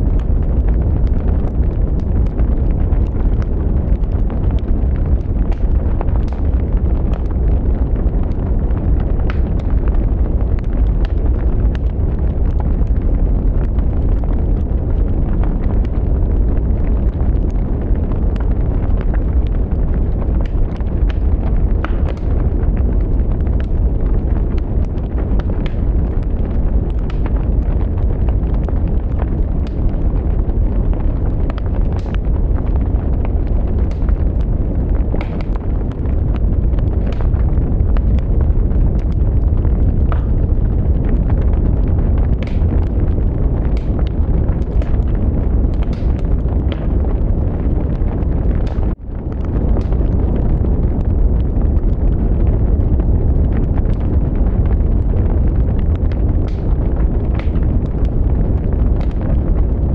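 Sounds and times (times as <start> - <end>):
burning wood crackling and popping: 0.0 - 59.9
flames rumbling: 0.0 - 59.9.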